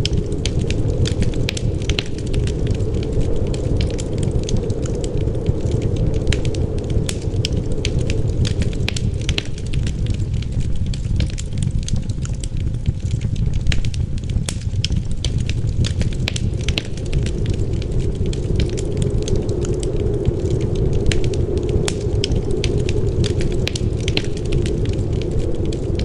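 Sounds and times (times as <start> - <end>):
low rumble of wind: 0.0 - 26.0
wood fire crackling: 0.0 - 26.0.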